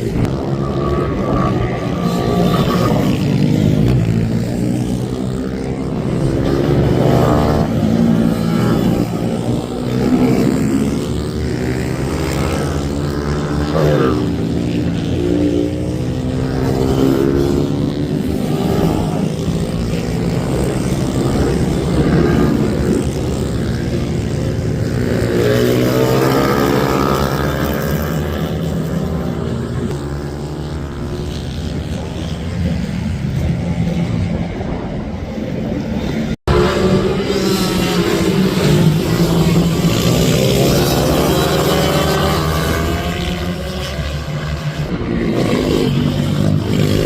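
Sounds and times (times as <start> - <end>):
minibike engines revving: 0.0 - 47.0.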